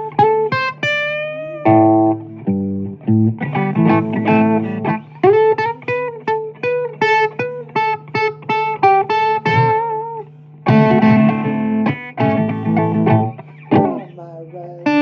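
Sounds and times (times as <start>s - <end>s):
blues guitar lead: 0.0s - 15.0s
strummed guitar chords: 0.0s - 15.0s.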